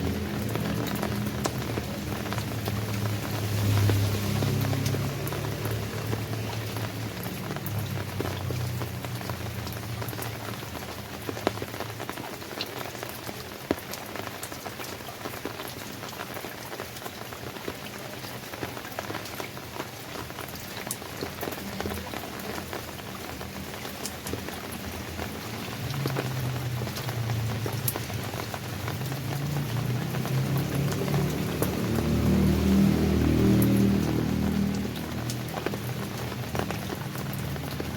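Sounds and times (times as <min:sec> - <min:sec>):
raindrops ticking on a surface: 0:00.0 - 0:37.9
steady rain falling: 0:00.0 - 0:37.9.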